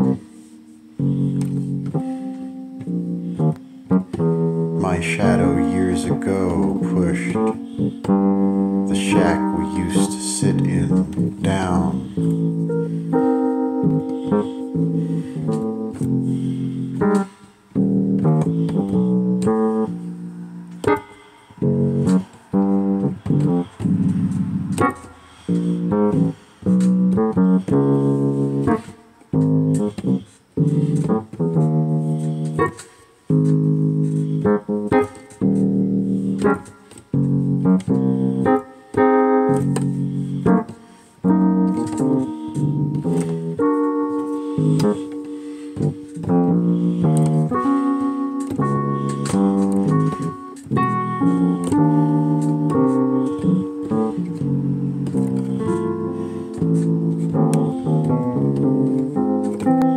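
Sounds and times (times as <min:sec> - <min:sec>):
instrumental background music: 0:00.0 - 0:59.9.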